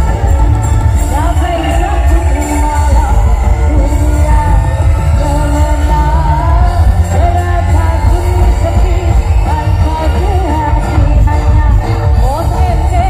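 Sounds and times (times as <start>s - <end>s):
loud bass-heavy music: 0.0s - 13.0s.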